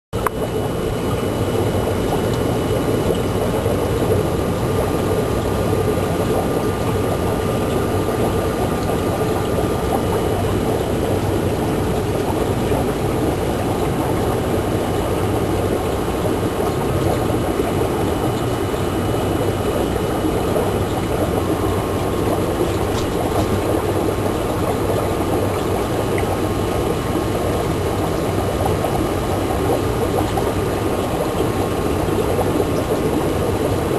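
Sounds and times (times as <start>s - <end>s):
air pump drone: 0.2s - 33.9s
water bubbling: 0.2s - 33.9s.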